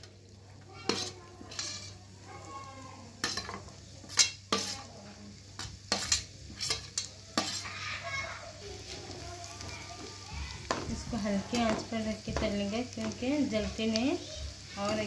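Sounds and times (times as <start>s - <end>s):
almonds sizzling in a pan: 0.0s - 15.0s.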